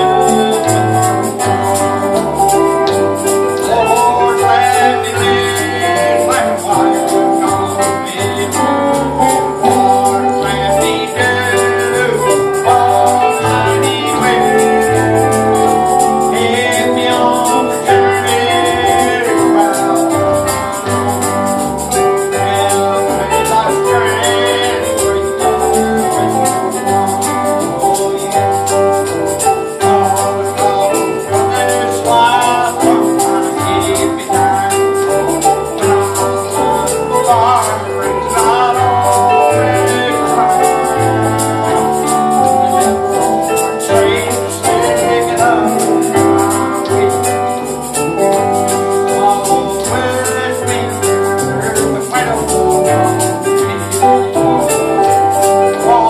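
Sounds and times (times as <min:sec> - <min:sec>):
bass line: 0:00.0 - 0:56.0
tambourine shaken on a beat: 0:00.0 - 0:56.0
voices singing: 0:00.0 - 0:56.0.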